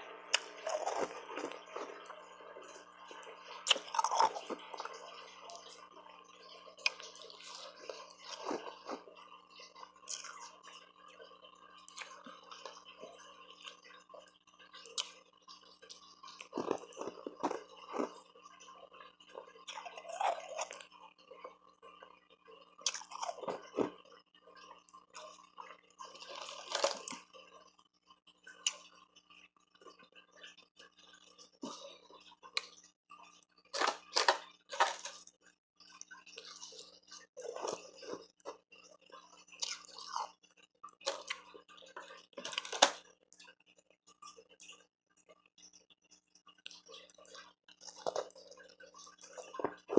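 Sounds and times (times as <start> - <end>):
chewing and crunching ice: 0.3 - 5.8, 6.5 - 22.0, 22.6 - 27.8, 29.7 - 43.5, 46.6 - 49.9.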